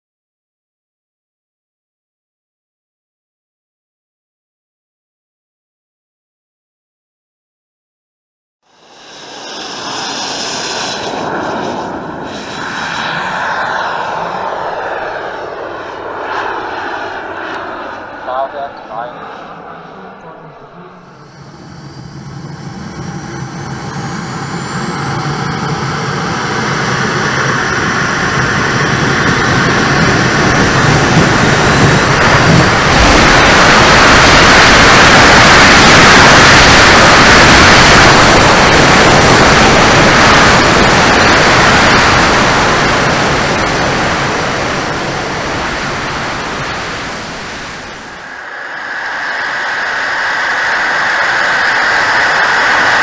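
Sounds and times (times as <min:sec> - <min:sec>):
jet turbine whine: 0:08.6 - 0:53.0
jet rush: 0:08.7 - 0:53.0
steady noise: 0:08.7 - 0:53.0.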